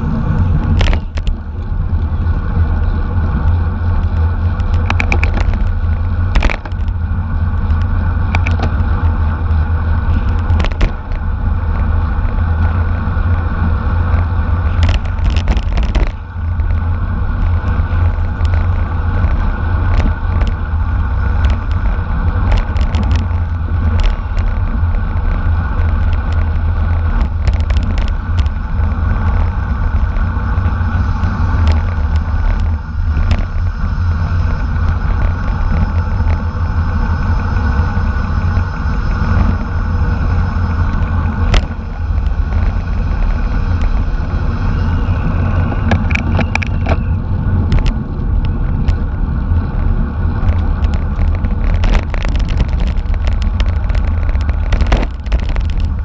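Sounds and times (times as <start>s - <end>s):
bicycle road noise: 0.0s - 56.0s
wind rumble: 0.0s - 56.0s.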